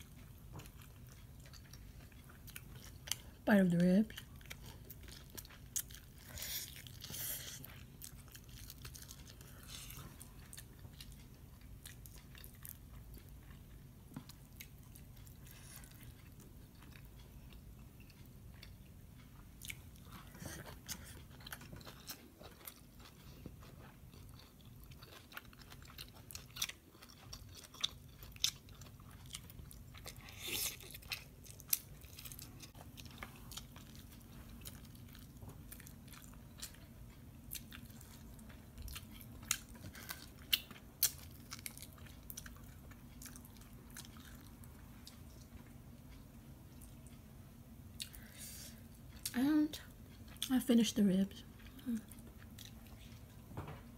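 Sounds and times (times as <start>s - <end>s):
close chewing and biting: 0.0s - 45.8s, 48.0s - 50.5s, 51.3s - 53.4s.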